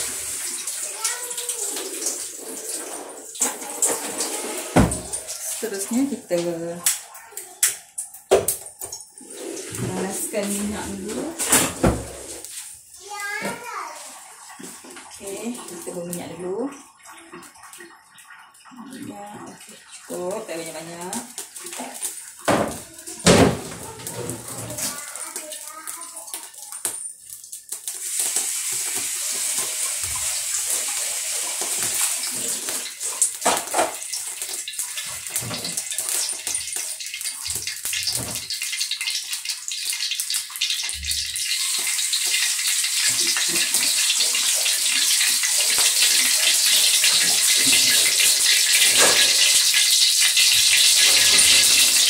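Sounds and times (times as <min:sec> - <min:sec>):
oil hissing and crackling in wok: 0:00.0 - 0:52.0.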